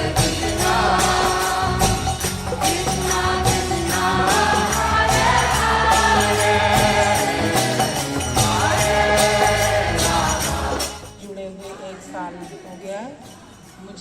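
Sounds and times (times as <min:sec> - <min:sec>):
devotional group singing: 0:00.0 - 0:12.8
jingling hand percussion: 0:00.0 - 0:14.0.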